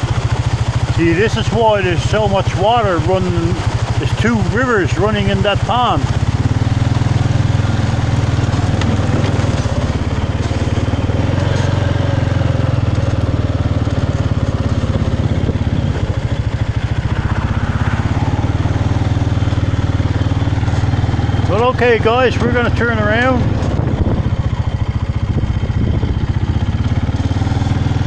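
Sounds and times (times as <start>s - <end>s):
motorbike engine running: 0.0s - 28.0s.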